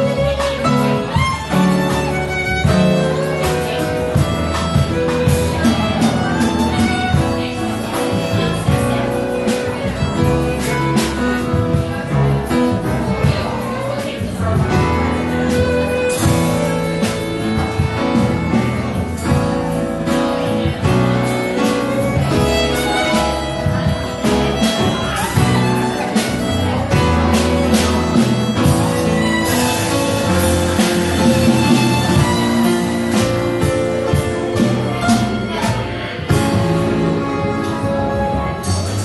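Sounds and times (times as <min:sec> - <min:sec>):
drum and cymbal strikes: 0:00.0 - 0:39.0
upright double bass: 0:00.0 - 0:39.0
violin: 0:00.0 - 0:39.0.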